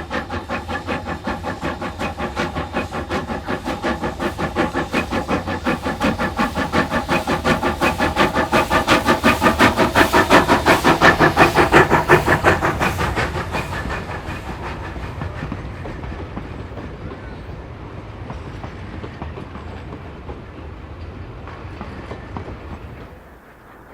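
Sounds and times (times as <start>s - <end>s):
steam locomotive chuffing: 0.0s - 23.9s.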